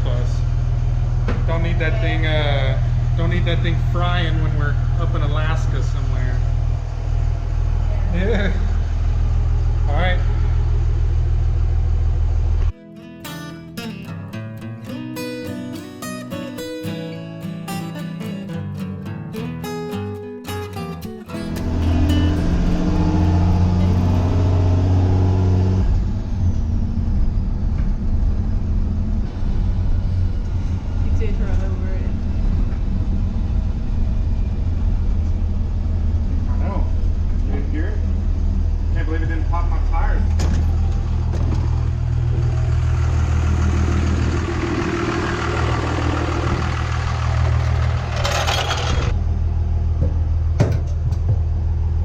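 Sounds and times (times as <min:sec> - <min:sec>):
diesel engine droning: 0:00.0 - 0:12.8, 0:21.3 - 0:52.0.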